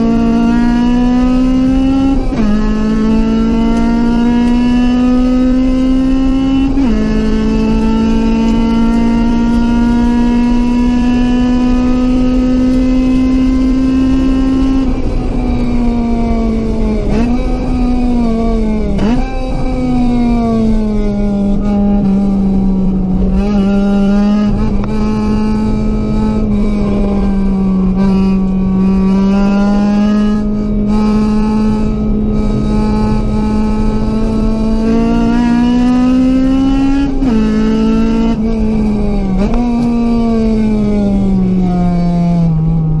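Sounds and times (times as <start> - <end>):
car engine revving high: 0.0 - 43.0.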